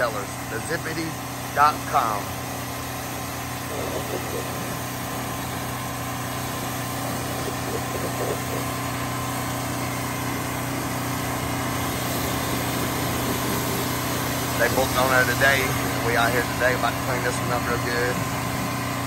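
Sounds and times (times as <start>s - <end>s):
pressure washer spray hissing: 0.0s - 19.0s
small engine running: 0.0s - 19.0s.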